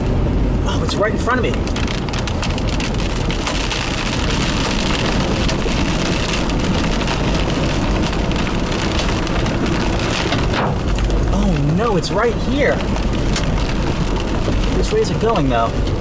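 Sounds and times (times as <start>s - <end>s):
hail and rain pelting: 0.2s - 16.0s.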